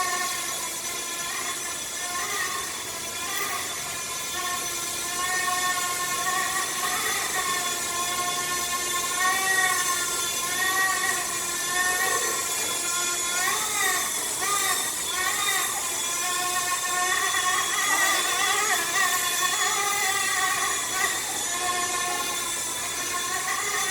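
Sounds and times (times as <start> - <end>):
model helicopter motor whining: 0.0 - 23.9.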